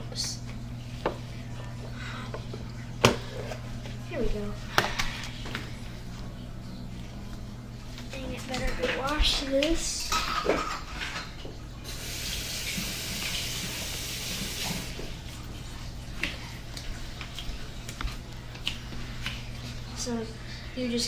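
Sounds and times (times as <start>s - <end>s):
sink tap running: 0.0s - 21.0s.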